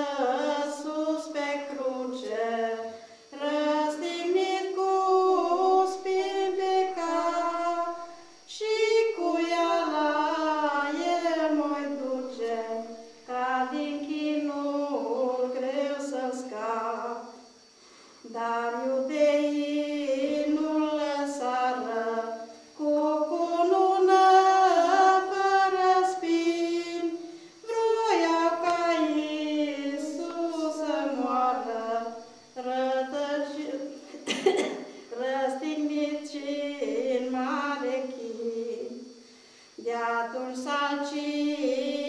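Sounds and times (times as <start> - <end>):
high voices singing unaccompanied: 0.0 - 42.0.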